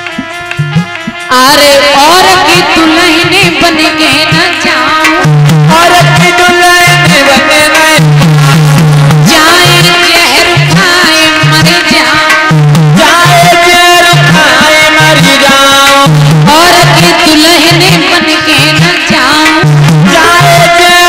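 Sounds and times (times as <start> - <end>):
hand drum beat: 0.0 - 21.0
harmonium: 0.0 - 21.0
person singing: 0.0 - 21.0.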